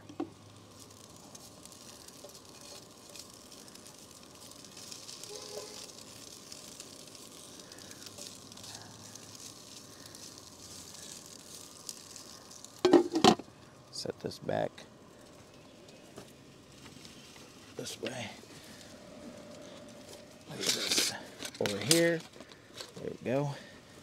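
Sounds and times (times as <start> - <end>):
sausages sizzling in a skillet: 0.0 - 24.0.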